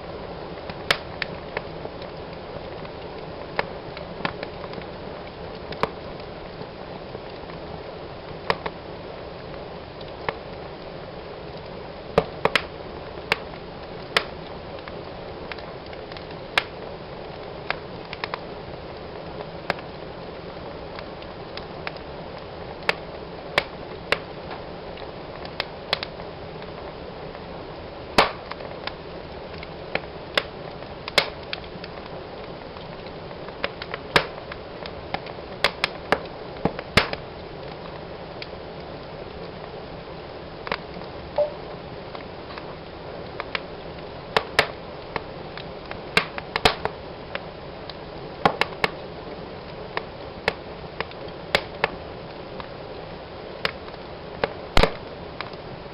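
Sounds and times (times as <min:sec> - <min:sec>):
hiss of flames: 0:00.0 - 0:55.9
wood fire crackling and popping: 0:00.0 - 0:55.9.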